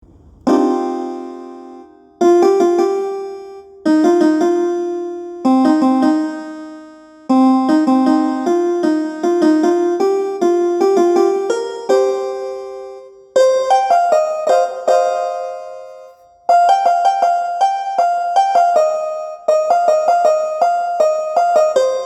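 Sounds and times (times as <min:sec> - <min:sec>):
piano-like ringtone melody: 0:00.4 - 0:22.0.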